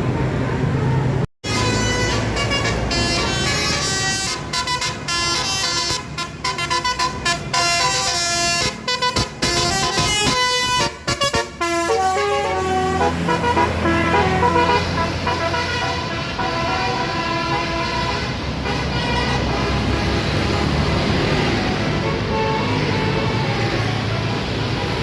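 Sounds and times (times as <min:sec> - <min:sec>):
bus engine running: 0:00.0 - 0:25.0
bus horn playing a tune: 0:01.4 - 0:20.5, 0:21.2 - 0:23.3.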